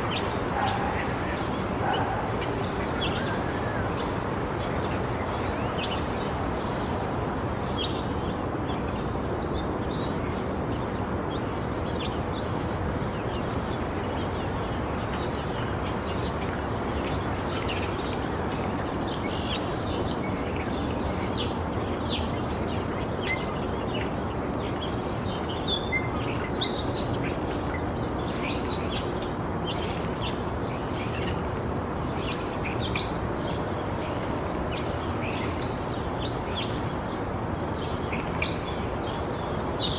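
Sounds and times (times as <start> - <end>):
low traffic rumble: 0.0 - 39.9
small birds chirping: 0.0 - 39.9.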